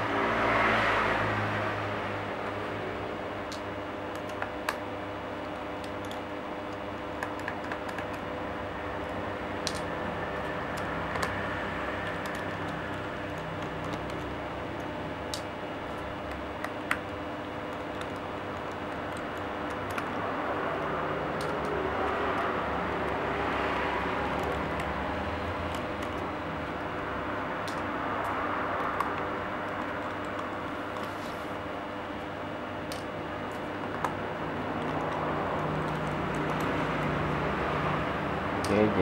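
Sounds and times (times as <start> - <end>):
steady background hum: 0.0 - 39.0.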